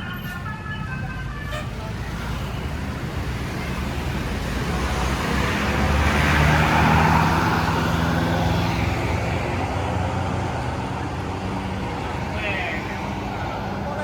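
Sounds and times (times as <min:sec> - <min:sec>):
bus passing by: 0:00.0 - 0:14.0.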